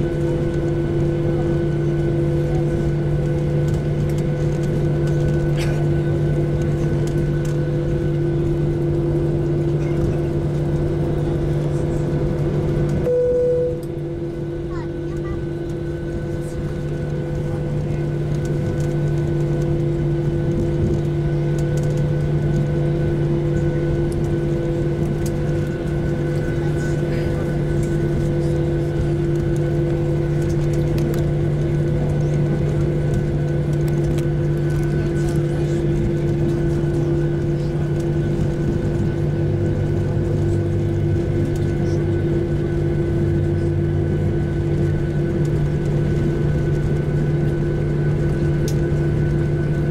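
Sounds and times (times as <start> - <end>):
constant rumble: 0.0 - 49.9
jet engines humming: 0.0 - 49.9.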